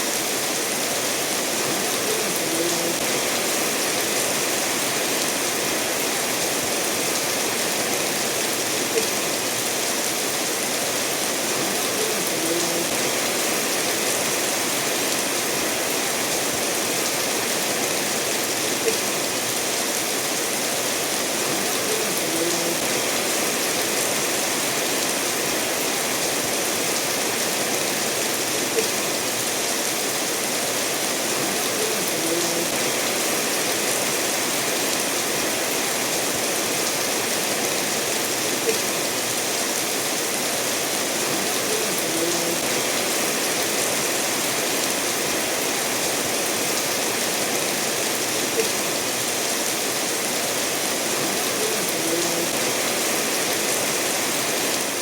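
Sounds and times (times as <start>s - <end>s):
steady rain falling: 0.0s - 55.0s
stream flowing over stones: 0.0s - 55.0s.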